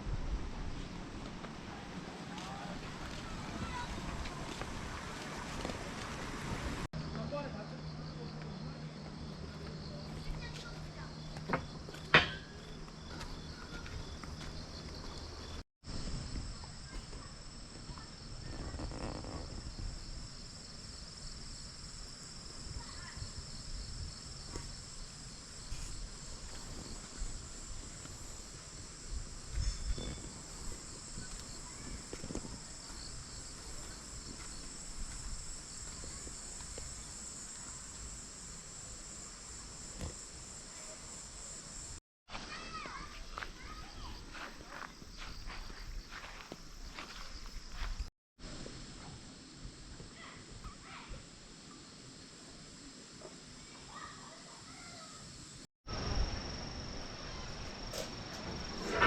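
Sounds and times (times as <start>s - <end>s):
crickets chirping: 1.7s - 59.0s.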